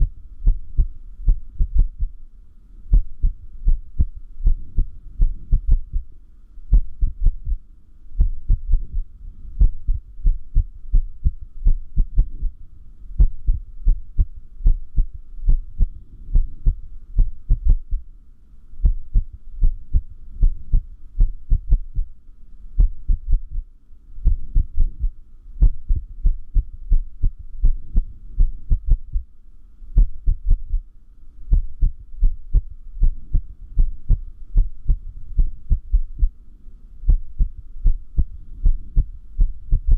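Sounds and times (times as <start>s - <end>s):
heart beating: 0.0s - 2.2s, 2.9s - 6.1s, 6.7s - 7.6s, 8.2s - 12.6s, 13.2s - 18.0s, 18.8s - 22.1s, 22.8s - 29.3s, 30.0s - 30.9s, 31.5s - 36.4s, 37.1s - 39.9s.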